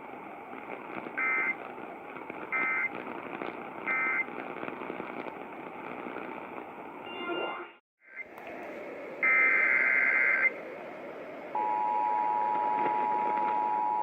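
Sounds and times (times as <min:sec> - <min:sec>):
broadcast hiss: 0:00.0 - 0:07.1, 0:08.0 - 0:14.0.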